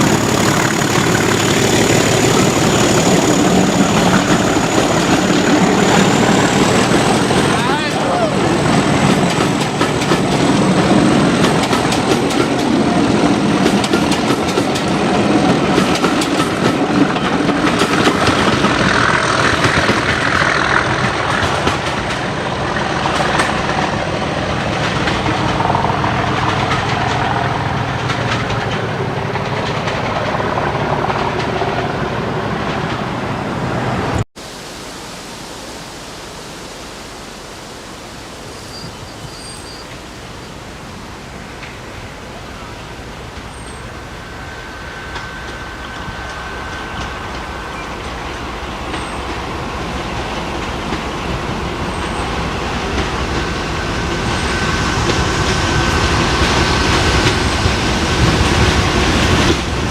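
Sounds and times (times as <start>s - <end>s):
clattering train wheels: 0.0s - 33.3s, 41.4s - 59.9s
diesel locomotive engine: 0.0s - 34.3s, 38.1s - 59.9s.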